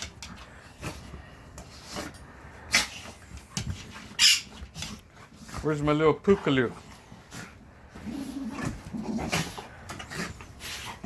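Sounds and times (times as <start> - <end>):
dogs play-fighting scuffling: 0.0 - 11.0.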